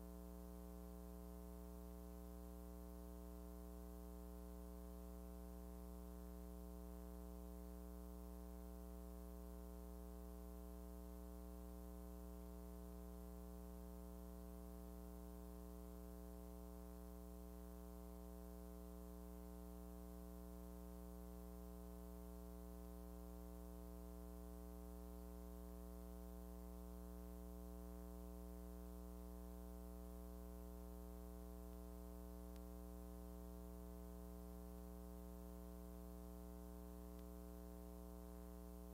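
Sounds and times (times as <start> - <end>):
faint electrical hum: 0.0 - 38.9.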